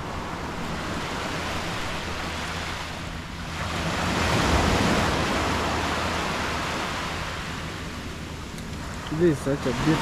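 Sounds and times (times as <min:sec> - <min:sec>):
surf washing onto beach: 0:00.0 - 0:10.0.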